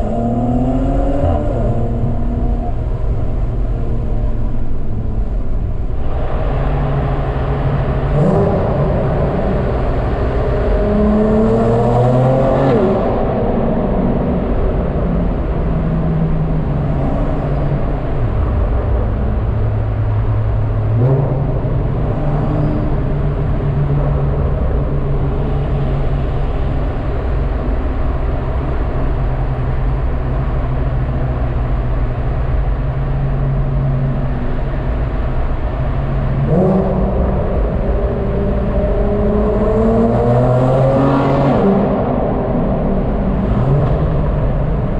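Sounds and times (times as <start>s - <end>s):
car engine and exhaust: 0.0s - 44.9s.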